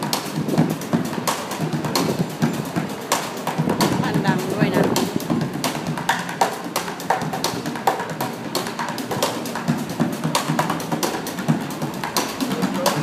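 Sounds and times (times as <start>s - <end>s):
drumming on plastic containers: 0.0s - 13.0s.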